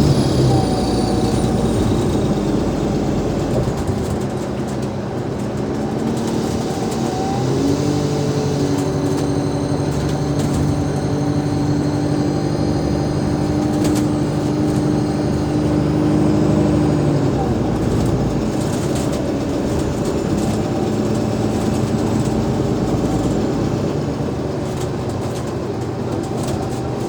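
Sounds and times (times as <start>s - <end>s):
bus diesel engine hum: 0.0s - 27.0s.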